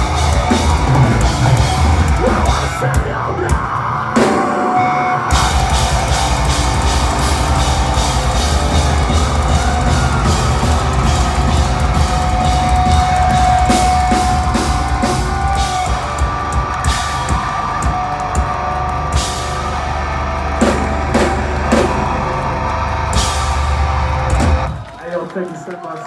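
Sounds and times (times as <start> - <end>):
drum kit hammering: 0.0 - 25.0
metalcore band playing live: 0.0 - 25.0.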